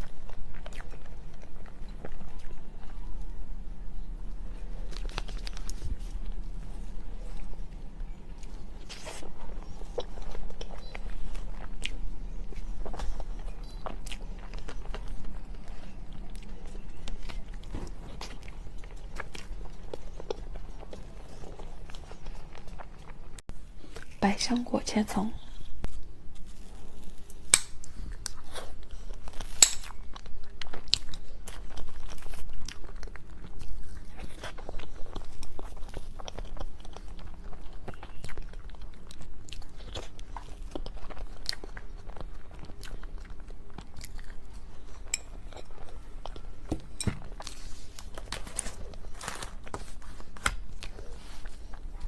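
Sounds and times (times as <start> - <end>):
close chewing and mouth smacks: 0.0 - 24.2, 25.4 - 52.0.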